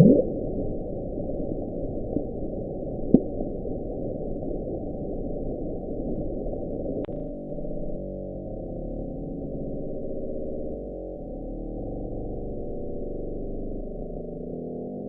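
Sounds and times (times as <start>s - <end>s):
low underwater rumble: 0.0s - 14.8s.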